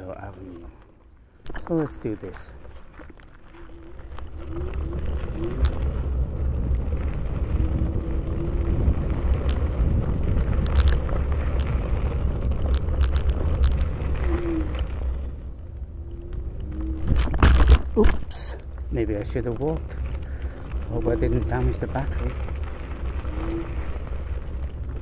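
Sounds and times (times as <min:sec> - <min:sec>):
ride rumbling over rough ground: 0:00.0 - 0:25.0.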